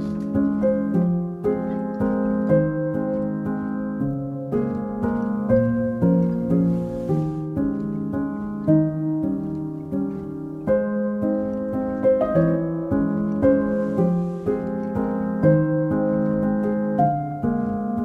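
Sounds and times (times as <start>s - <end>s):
slow gentle piano music: 0.0s - 18.0s.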